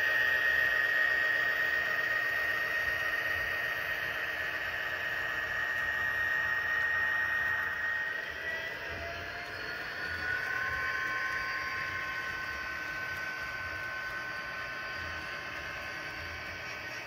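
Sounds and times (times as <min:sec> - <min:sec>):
high steady tone: 0:00.0 - 0:16.8
model train wheels rolling on track: 0:00.0 - 0:17.0.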